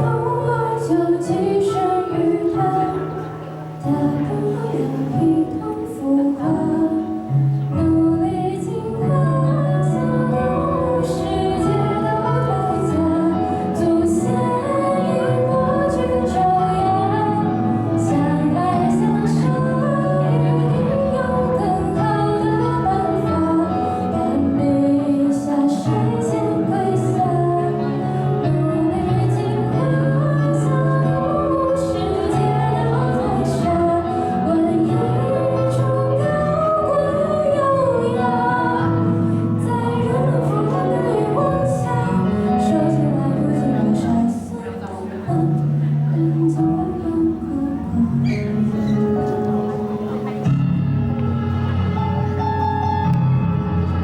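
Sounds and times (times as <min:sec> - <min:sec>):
woman singing: 0:00.0 - 0:49.9
instrumental accompaniment: 0:00.0 - 0:54.0.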